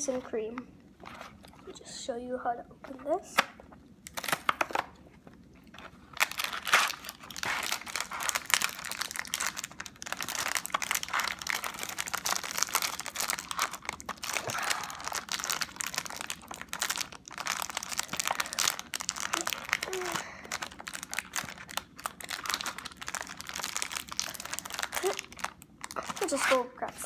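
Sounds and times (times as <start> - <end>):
snack box and foil wrapper crinkling: 2.9 - 27.0.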